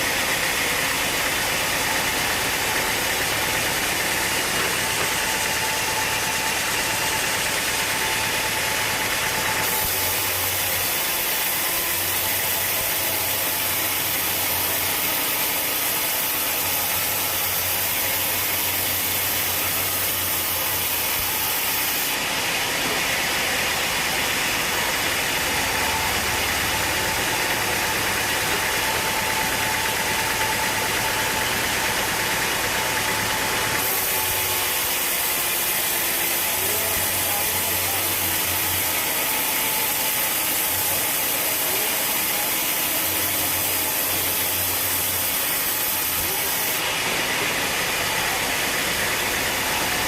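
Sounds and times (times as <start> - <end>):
sawmill machinery drone: 0.0 - 50.0.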